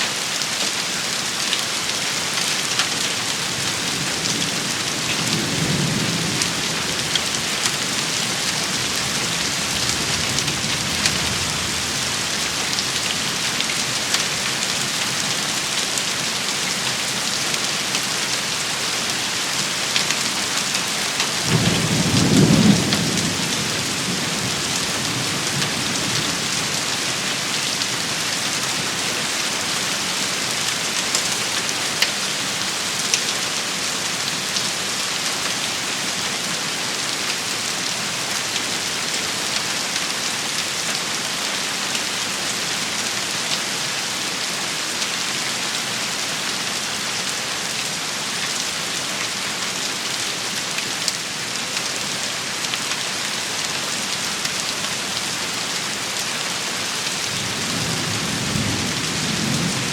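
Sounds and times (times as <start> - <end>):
rain pattering: 0.2 - 59.9.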